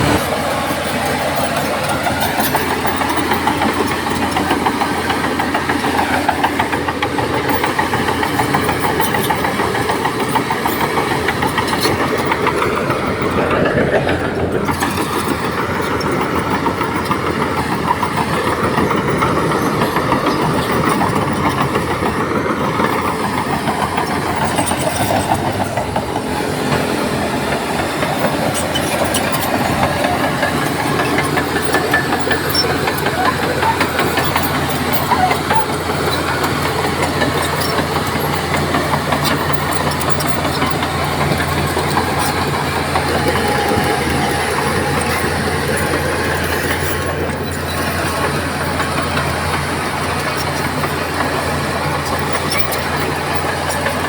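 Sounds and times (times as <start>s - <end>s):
diesel earthmoving machinery running: 0.0s - 54.0s.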